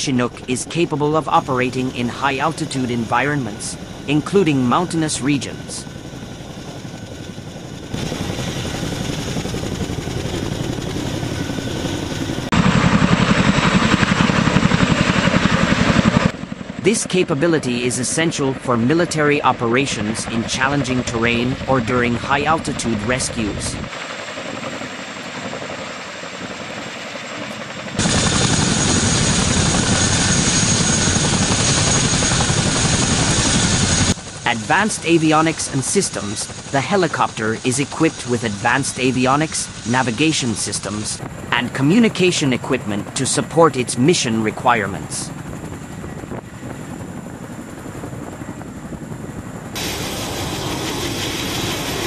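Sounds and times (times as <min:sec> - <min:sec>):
helicopter rotor blade chop: 0:00.0 - 0:52.0.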